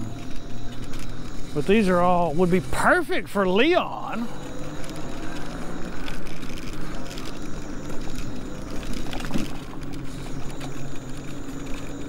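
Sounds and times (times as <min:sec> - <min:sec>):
road and wind noise: 0:00.0 - 0:12.0
vehicle engine hum: 0:00.0 - 0:12.0.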